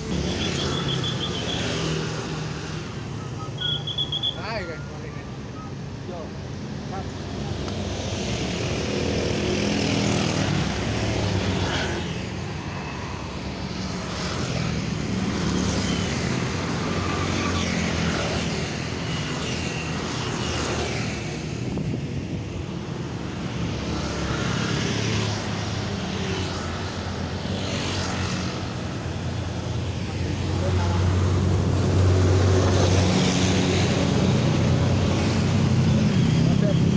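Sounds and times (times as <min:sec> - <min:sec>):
vehicles passing: 0:00.0 - 0:36.9.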